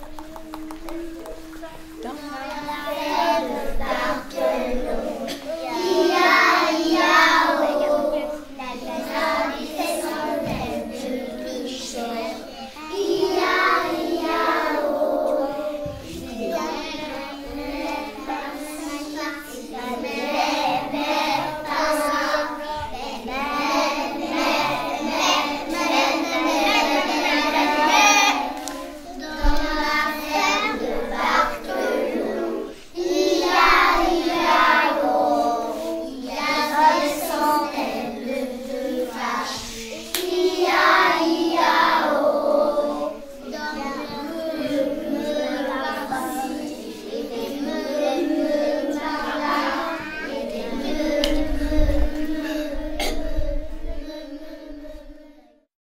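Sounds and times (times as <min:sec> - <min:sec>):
young children singing: 0:00.0 - 0:55.7.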